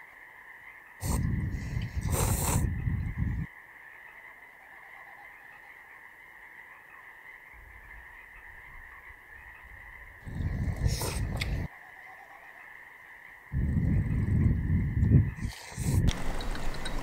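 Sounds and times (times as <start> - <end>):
frogs trilling: 0.0 - 17.0.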